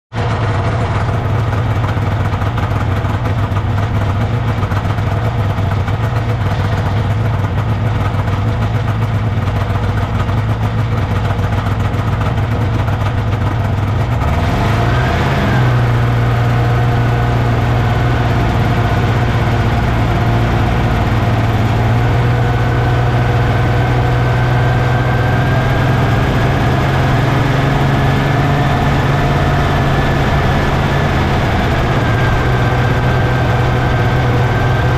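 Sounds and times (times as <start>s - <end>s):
snowmobile engine idling and revving: 0.1s - 34.9s.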